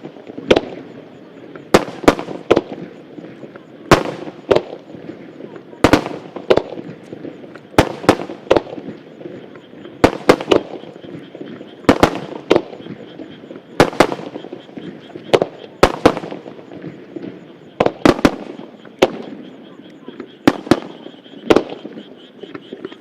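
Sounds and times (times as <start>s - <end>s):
firework bangs with echo: 0.0s - 22.9s.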